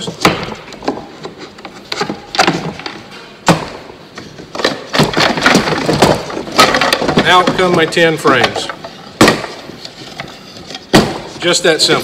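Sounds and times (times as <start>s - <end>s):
wooden knocks and clatter: 0.0s - 11.4s.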